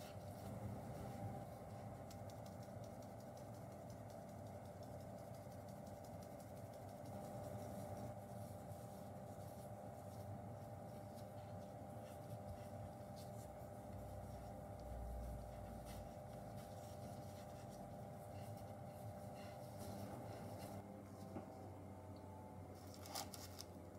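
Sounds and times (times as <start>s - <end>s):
low room hum: 0.0s - 23.9s.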